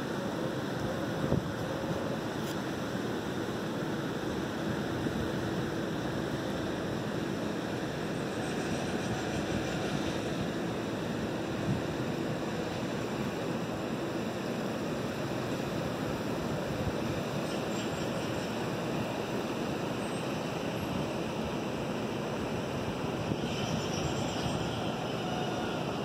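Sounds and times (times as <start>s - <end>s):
water rushing: 0.0s - 26.0s
wind: 0.0s - 26.0s.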